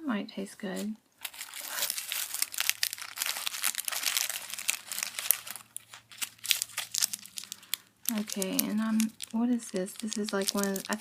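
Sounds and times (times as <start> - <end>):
plastic and paper crinkling: 0.8 - 11.0.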